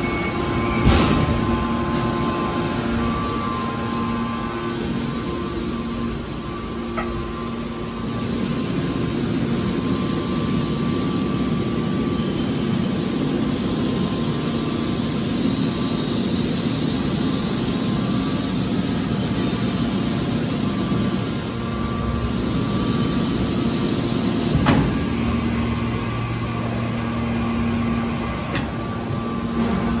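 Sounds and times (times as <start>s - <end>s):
hydraulic power unit humming: 0.0s - 30.0s.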